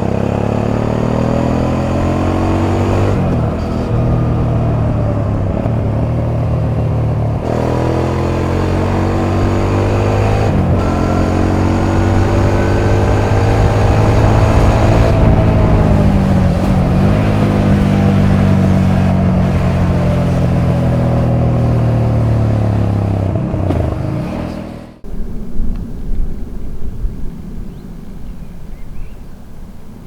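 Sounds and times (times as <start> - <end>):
low rumbling with gusts: 0.0 - 30.0
motorcycle engine running: 0.0 - 30.0.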